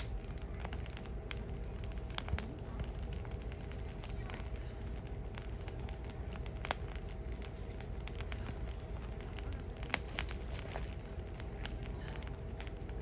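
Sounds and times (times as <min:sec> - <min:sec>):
fire popping: 0:00.0 - 0:13.0
firewood crackling: 0:00.0 - 0:13.0
low rumble: 0:00.0 - 0:13.0.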